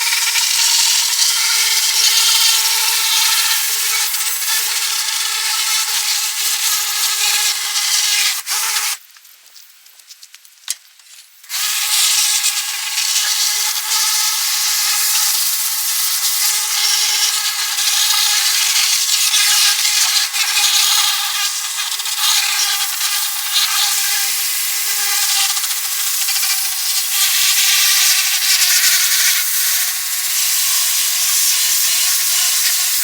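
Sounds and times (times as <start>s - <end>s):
abrasive power tool grinding: 0.0s - 9.0s, 11.5s - 33.0s.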